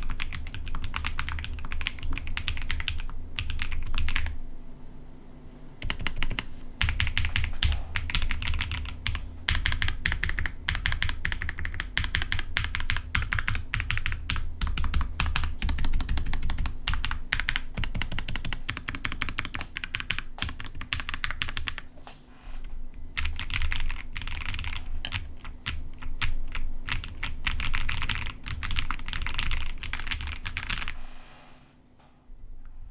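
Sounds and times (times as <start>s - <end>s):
mechanical keyboard typing: 0.0s - 4.4s, 5.8s - 21.9s, 23.1s - 31.0s.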